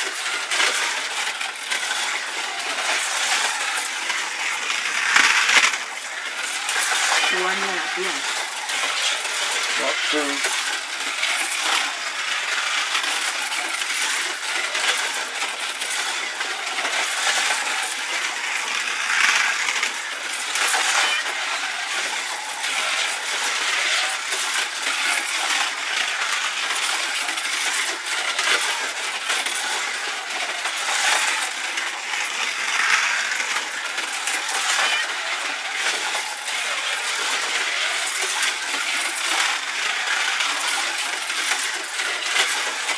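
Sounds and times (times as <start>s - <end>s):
slot car motors whirring: 0.0s - 42.9s.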